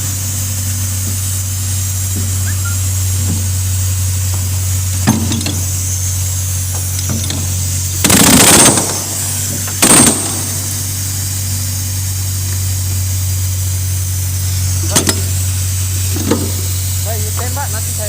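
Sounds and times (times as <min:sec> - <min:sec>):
engine humming: 0:00.0 - 0:18.0
spray hissing: 0:00.0 - 0:18.0.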